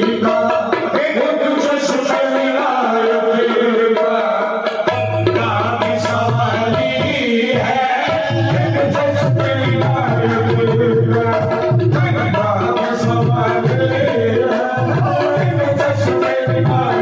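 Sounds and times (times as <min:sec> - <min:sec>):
tabla drumming: 0:00.0 - 0:17.0.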